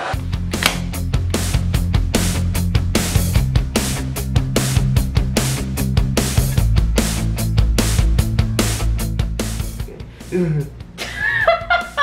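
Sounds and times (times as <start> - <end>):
music with steady beat and bass: 0.1 - 12.0.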